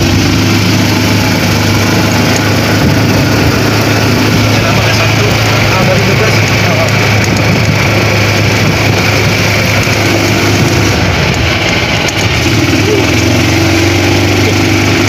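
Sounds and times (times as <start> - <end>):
road noise: 0.0 - 15.0
small gasoline engine running: 0.0 - 15.0.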